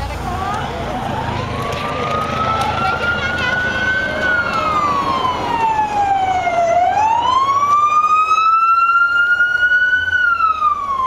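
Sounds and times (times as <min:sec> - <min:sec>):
police siren wailing: 0:00.3 - 0:11.0.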